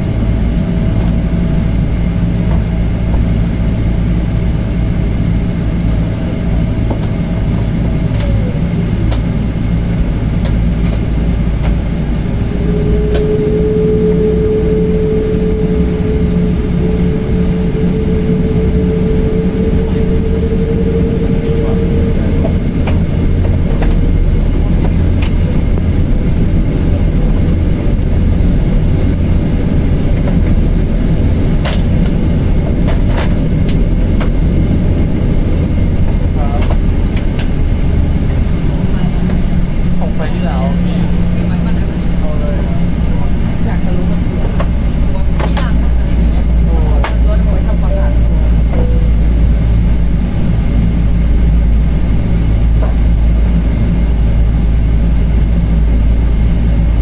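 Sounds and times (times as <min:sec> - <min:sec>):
aircraft engine rumble: 0:00.0 - 0:57.0
rising whine: 0:00.0 - 0:57.0
whine sliding in pitch: 0:00.0 - 0:57.0.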